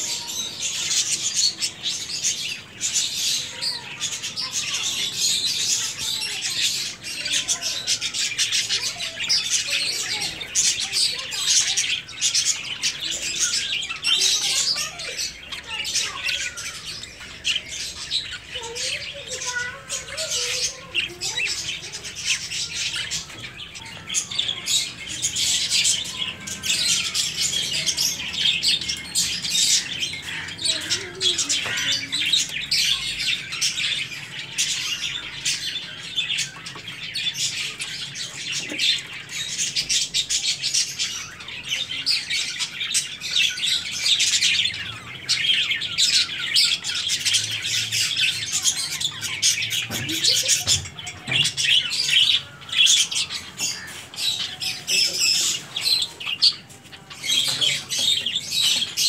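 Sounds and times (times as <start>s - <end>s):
parrots chirping and chattering: 0.0s - 59.0s.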